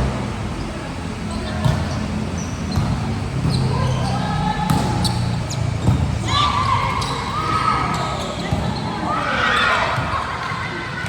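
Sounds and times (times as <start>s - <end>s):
low rumble of gym hall: 0.0s - 11.0s.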